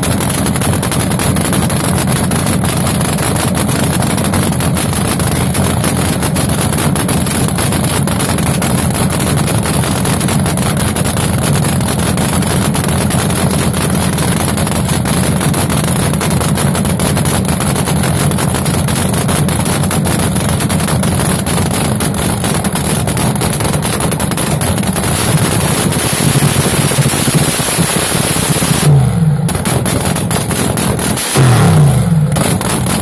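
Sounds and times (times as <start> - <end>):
loud rough engine idle: 0.0 - 33.0.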